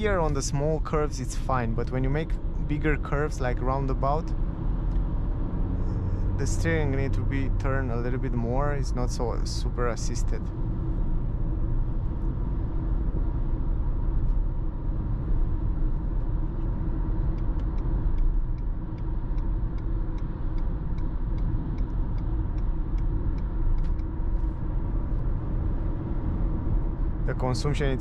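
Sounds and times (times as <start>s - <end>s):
road and tyre noise: 0.0s - 28.0s.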